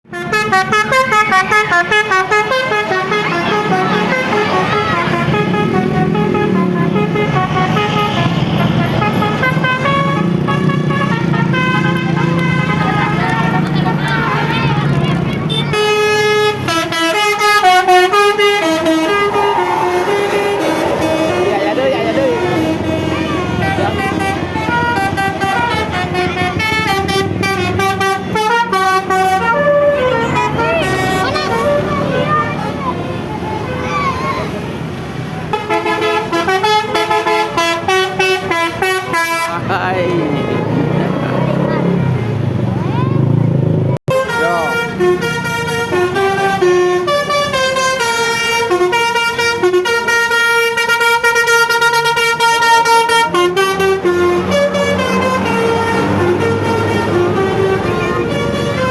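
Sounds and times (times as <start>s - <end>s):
vehicle engine rumbling: 0.0s - 58.9s
multi-tone air horn tune: 0.1s - 14.8s, 15.5s - 32.7s, 35.5s - 40.9s, 44.1s - 58.9s.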